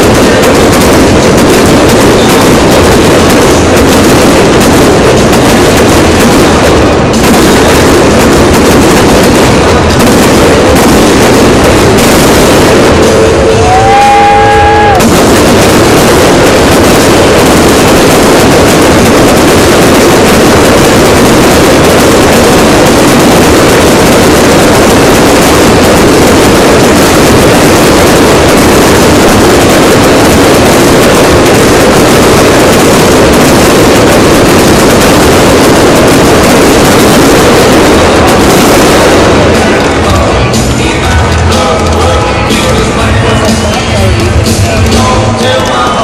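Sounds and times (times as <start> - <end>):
firework whistling: 0.0 - 46.0
fireworks barrage: 0.0 - 46.0.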